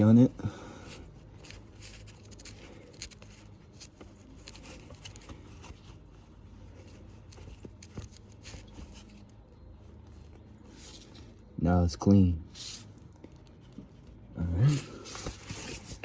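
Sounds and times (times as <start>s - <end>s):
low steady background hum: 0.0s - 16.0s.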